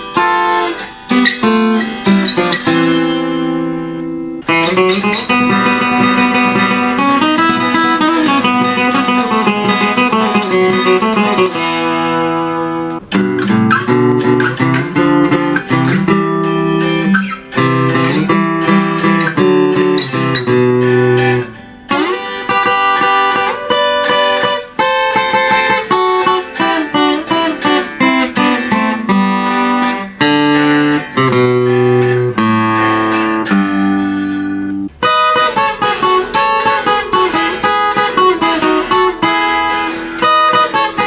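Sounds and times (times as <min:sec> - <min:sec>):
fingerstyle acoustic guitar: 0:00.0 - 0:41.0.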